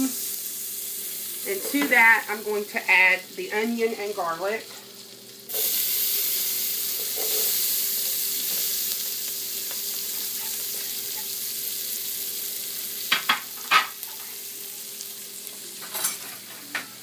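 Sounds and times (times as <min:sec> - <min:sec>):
onion sizzling in a pan: 0:00.0 - 0:17.0.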